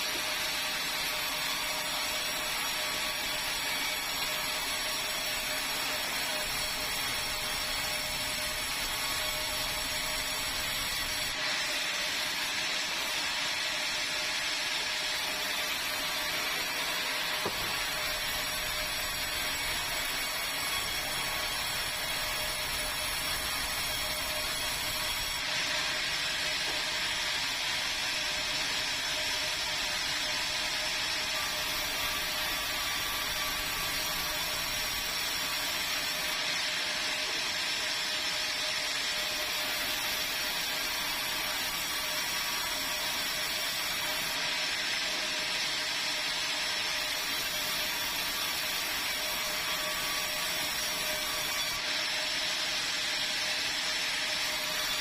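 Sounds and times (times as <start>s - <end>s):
sawmill saw cutting timber: 0.0s - 55.0s.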